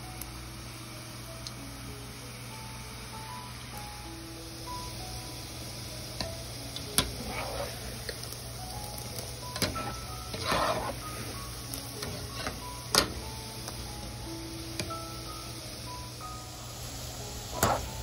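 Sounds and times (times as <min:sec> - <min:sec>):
light background music: 0:00.0 - 0:18.0.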